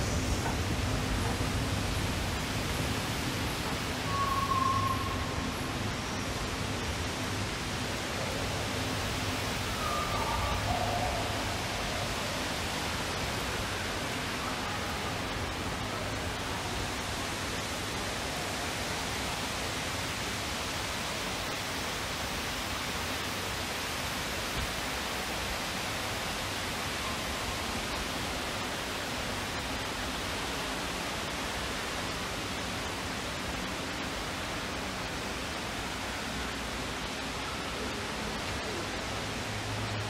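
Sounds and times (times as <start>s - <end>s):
falling water rushing: 0.0s - 40.0s.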